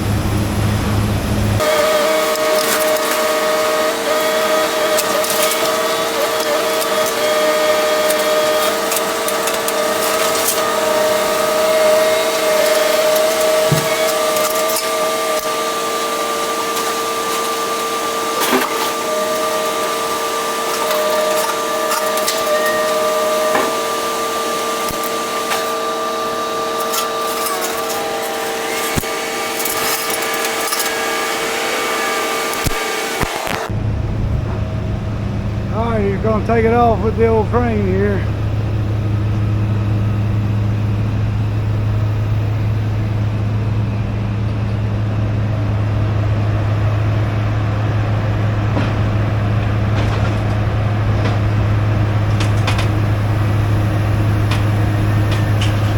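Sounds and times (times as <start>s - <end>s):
steady mechanical whine: 0.0s - 55.9s.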